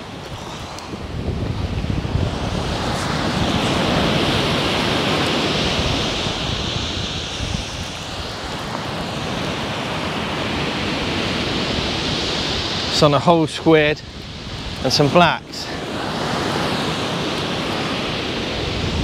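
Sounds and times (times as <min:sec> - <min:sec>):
surf breaking on shingle beach: 0:00.0 - 0:19.0
wind buffeting microphone: 0:00.0 - 0:19.0.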